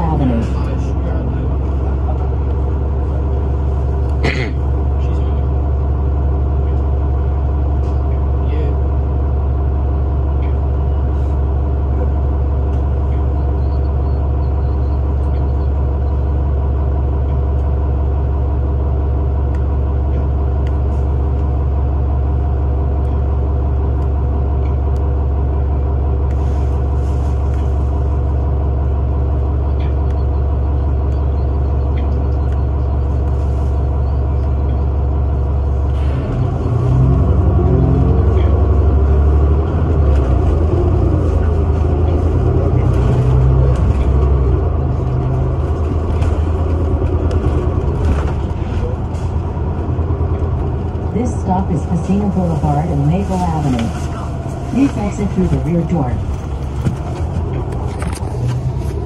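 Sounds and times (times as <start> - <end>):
bus engine idling: 0.0 - 59.0.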